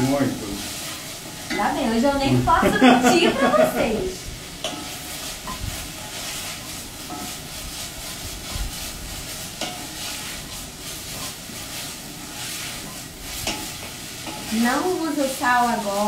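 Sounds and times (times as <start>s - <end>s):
onions sizzling in oil: 0.0s - 16.0s
wooden spoon scraping pot: 0.0s - 16.0s.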